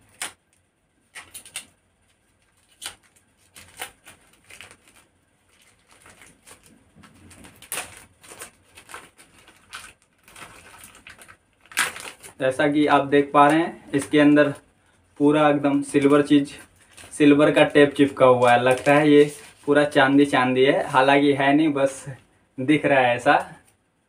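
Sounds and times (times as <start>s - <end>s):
plastic envelope ripping and crinkling: 0.0s - 14.6s, 15.6s - 20.9s.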